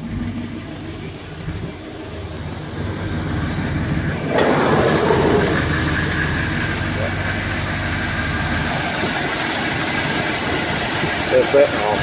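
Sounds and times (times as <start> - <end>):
broad loud noise: 0.0 - 12.0
truck engine idling: 0.0 - 12.0.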